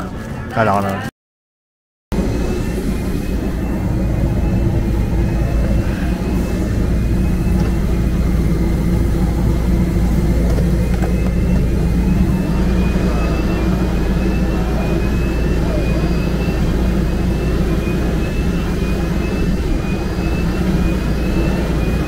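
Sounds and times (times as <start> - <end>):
aircraft engines droning: 2.1 - 22.0
faint high whine: 2.1 - 22.0.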